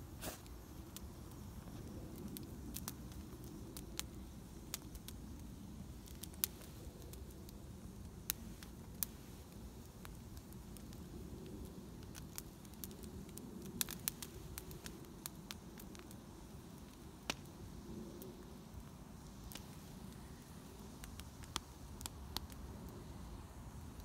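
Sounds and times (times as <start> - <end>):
low steady fire rumble: 0.0 - 24.0
wood fire crackling and popping: 0.0 - 24.0.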